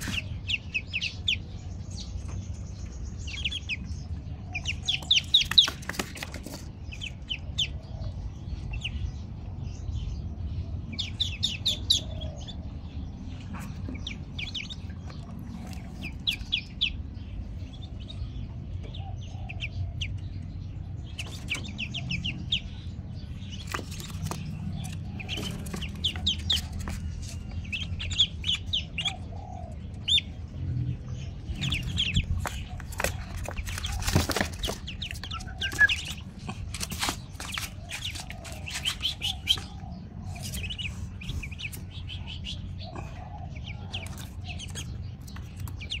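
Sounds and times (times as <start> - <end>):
ducklings peeping: 0.0 - 46.0.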